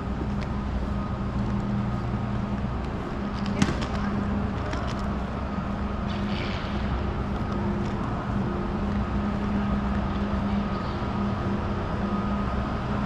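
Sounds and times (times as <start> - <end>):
low pulsing drone: 0.0 - 13.0
ventilation hum and rushing air: 0.0 - 13.0.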